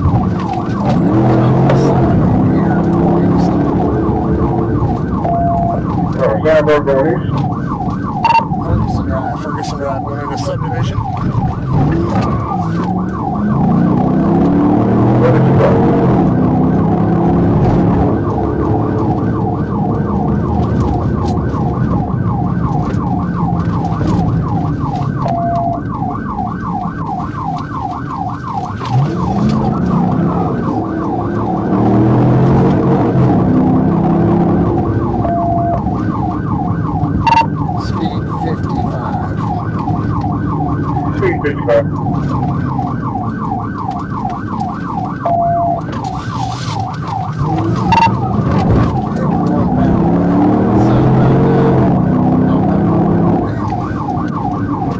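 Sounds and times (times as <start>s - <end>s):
car engine revving: 0.0s - 25.7s, 27.8s - 54.9s
police siren warbling: 0.0s - 54.9s.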